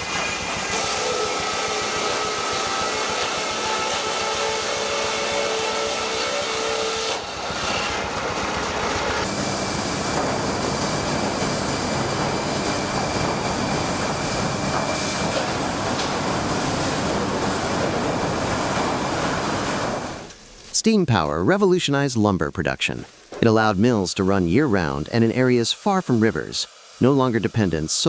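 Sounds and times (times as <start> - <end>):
machinery running: 0.0 - 20.3, 23.3 - 28.0.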